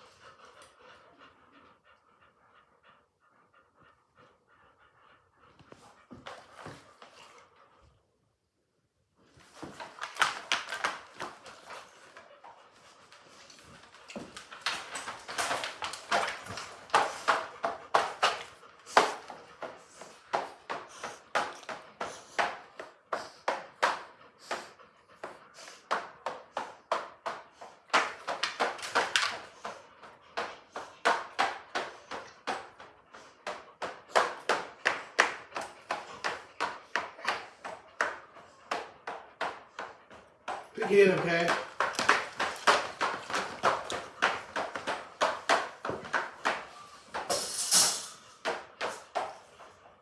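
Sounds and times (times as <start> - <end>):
dog panting: 0.0 - 47.3.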